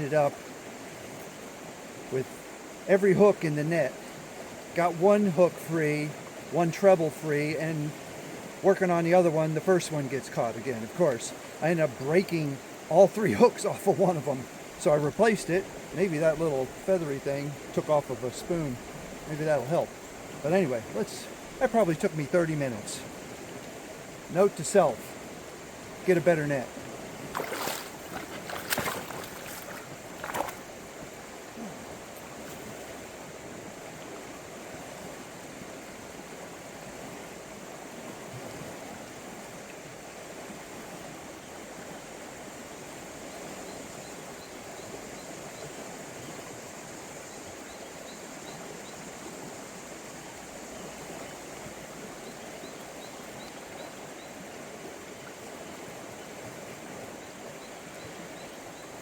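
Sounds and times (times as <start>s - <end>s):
river current rushing: 0.0s - 59.0s.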